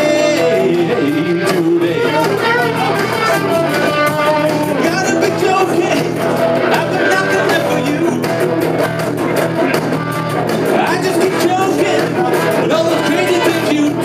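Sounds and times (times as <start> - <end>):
man singing: 0.0 - 8.5, 10.6 - 14.0
electric guitars: 0.0 - 14.0.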